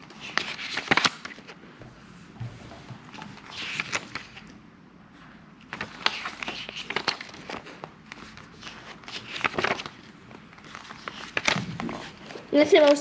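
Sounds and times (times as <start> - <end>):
booklet pages flipping: 0.0 - 1.6, 2.4 - 4.6, 5.6 - 13.0.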